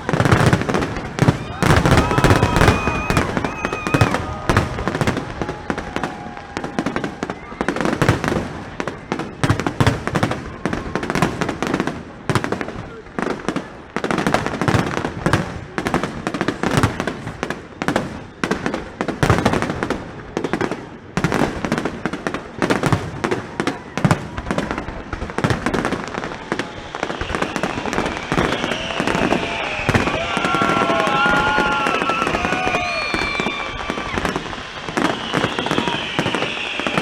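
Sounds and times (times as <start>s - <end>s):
fireworks whistling: 0.0s - 11.6s, 16.6s - 37.0s
fireworks bangs and crackling: 0.0s - 37.0s.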